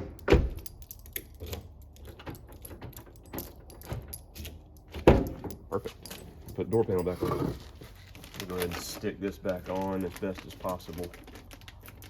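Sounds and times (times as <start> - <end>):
light clicks and rattles: 0.0 - 12.0.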